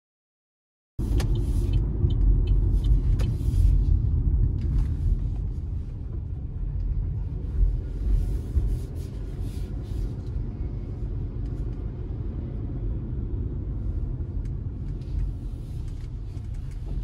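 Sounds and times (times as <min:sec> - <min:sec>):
car road and engine rumble: 0:01.0 - 0:17.0.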